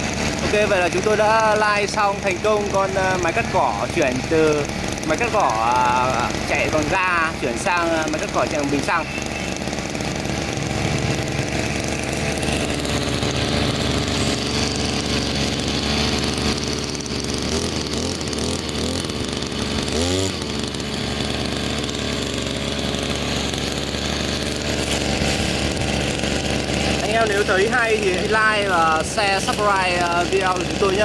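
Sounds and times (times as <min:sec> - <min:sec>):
brush cutter engine running: 0:00.0 - 0:31.0.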